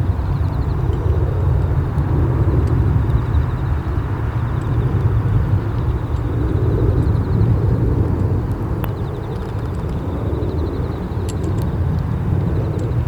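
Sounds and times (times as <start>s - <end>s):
jet engines at takeoff power: 0.0s - 13.0s.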